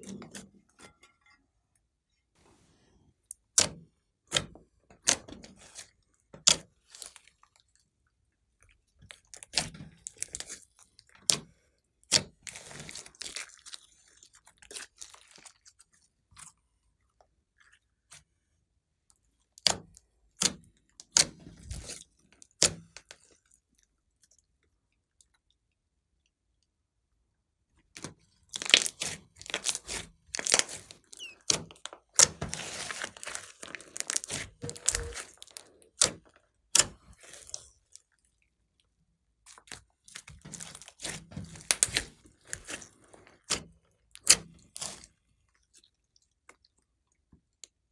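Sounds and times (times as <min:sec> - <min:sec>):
slime squelching: 0:03.2 - 0:26.9, 0:27.8 - 0:47.9.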